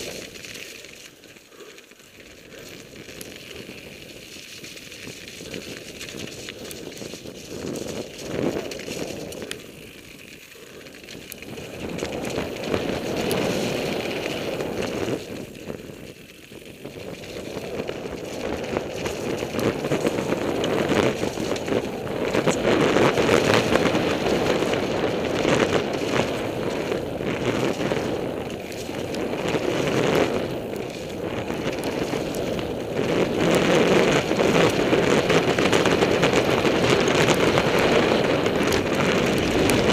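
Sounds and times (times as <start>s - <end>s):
bike rattling over bumps: 0.0s - 39.9s
bike tyres on dirt trail: 0.0s - 39.9s.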